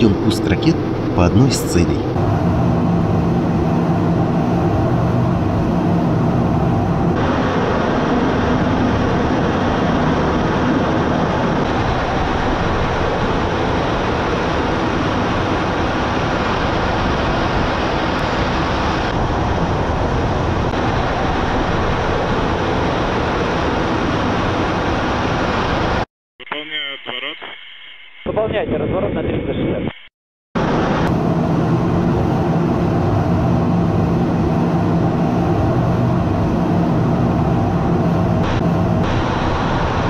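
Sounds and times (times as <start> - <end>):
low steady hum: 0.0 - 25.6, 30.6 - 40.0
jet engine and airflow rushing: 0.0 - 26.1, 30.6 - 40.0.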